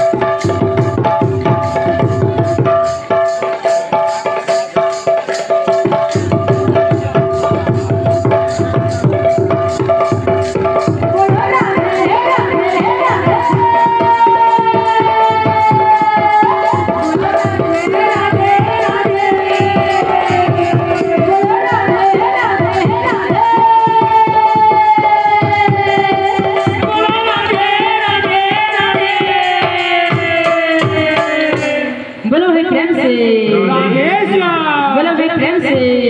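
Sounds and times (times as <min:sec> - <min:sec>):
fast barrel drum drumming: 0:00.0 - 0:31.6.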